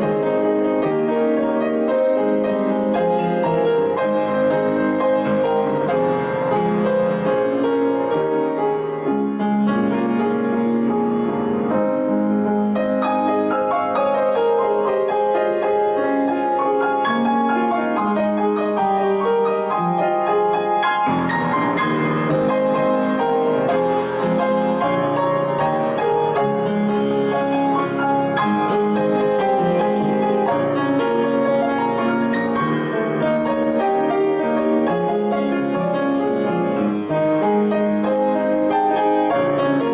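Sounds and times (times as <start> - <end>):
slow solo piano: 0.0 - 39.9.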